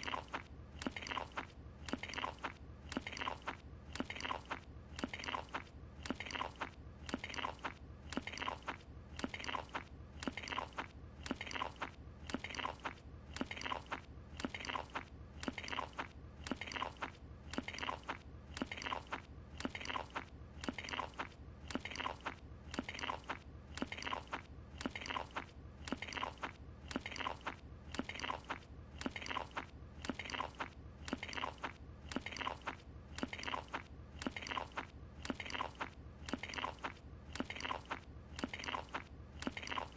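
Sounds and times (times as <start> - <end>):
cartoon crunchy chewing: 0.0 - 39.9.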